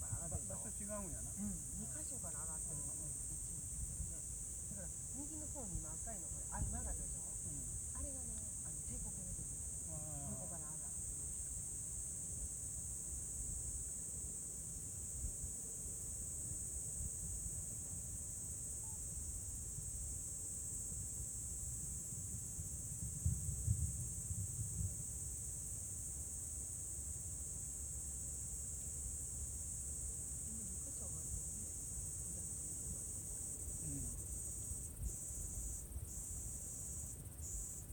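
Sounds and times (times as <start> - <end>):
night insects chirping: 0.0 - 37.9.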